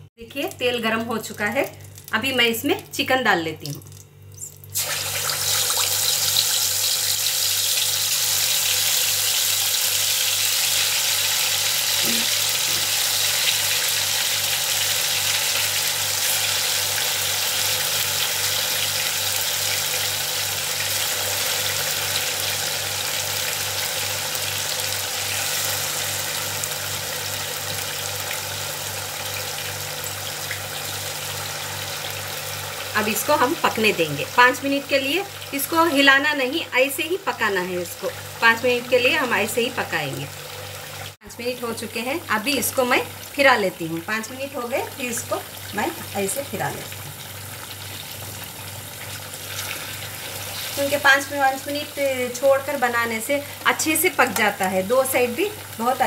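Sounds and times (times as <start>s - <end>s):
chicken deep-frying in oil: 0.0s - 56.0s.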